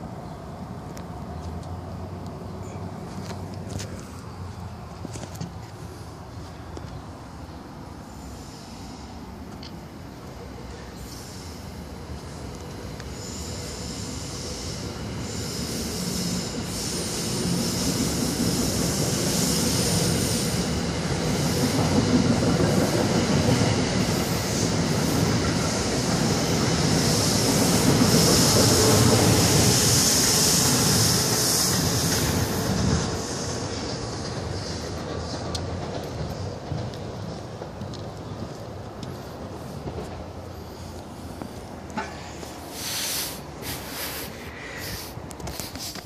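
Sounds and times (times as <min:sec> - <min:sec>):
steel wheels squealing on rails: 0:07.9 - 0:46.0.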